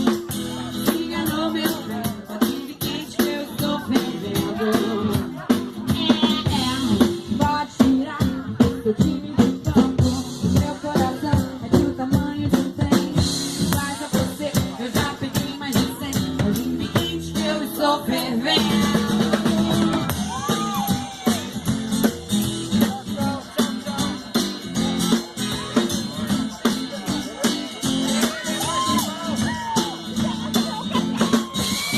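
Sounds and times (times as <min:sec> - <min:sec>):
music with singing and guitar: 0:00.0 - 0:31.9
steady drum beat: 0:00.0 - 0:31.9.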